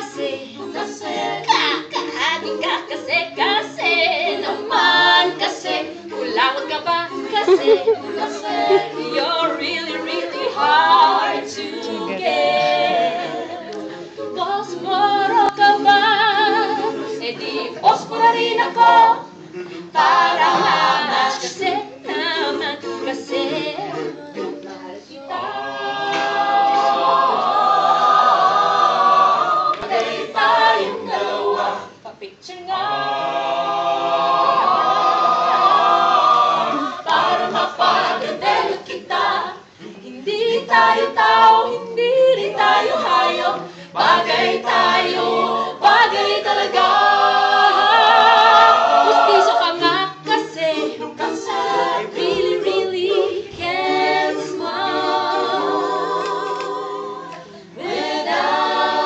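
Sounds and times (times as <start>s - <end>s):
a cappella choir singing: 0.0s - 59.0s.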